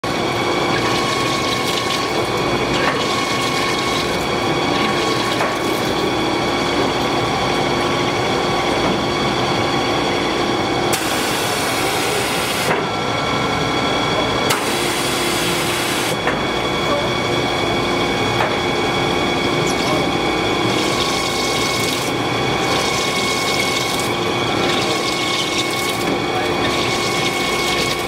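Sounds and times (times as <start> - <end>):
drilling machine humming: 0.0 - 28.0.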